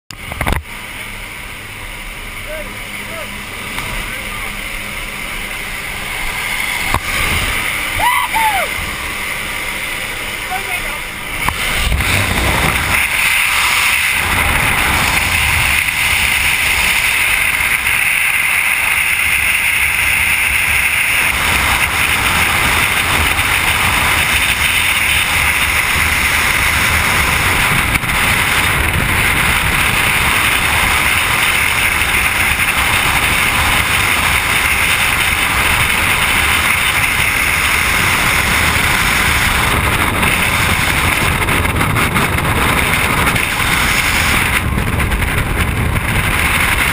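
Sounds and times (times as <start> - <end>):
freefall wind buffeting microphone: 0.1 - 46.9.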